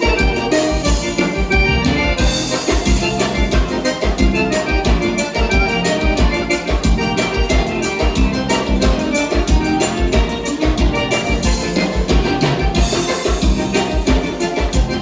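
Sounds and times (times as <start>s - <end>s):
accordion melody: 0.0s - 15.0s
dance band playing: 0.0s - 15.0s.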